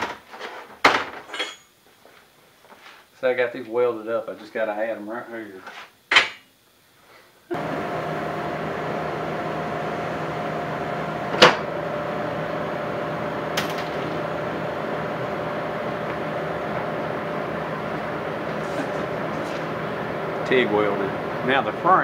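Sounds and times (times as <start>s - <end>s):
welding arc hum and hiss: 1.8s - 22.0s.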